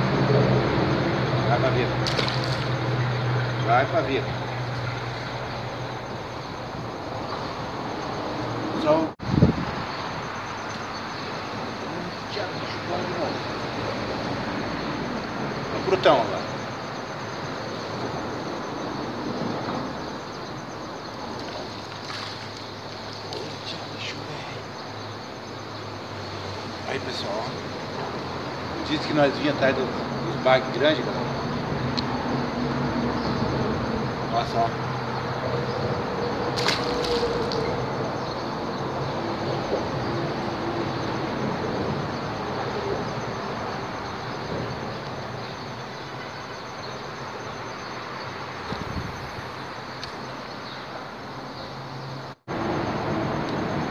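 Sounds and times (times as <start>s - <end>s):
road traffic hiss and rumble: 0.0s - 53.9s.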